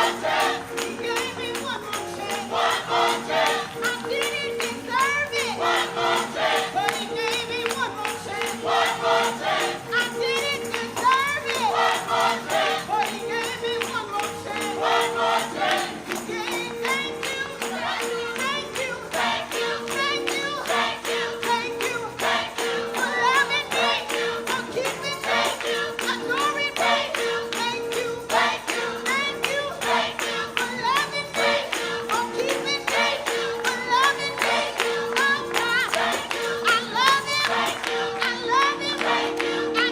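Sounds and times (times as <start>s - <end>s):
steady percussive beat: 0.0s - 38.1s
voices singing: 0.0s - 39.9s.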